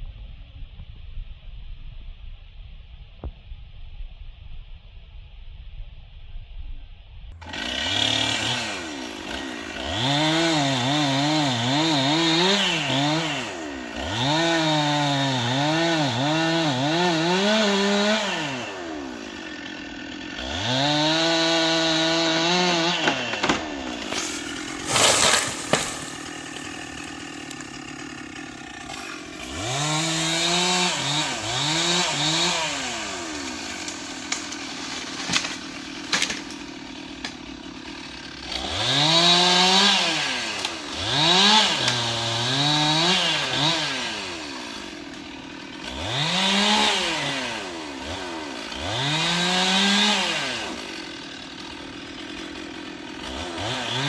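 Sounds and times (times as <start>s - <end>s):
chainsaw cutting wood: 7.4s - 54.0s.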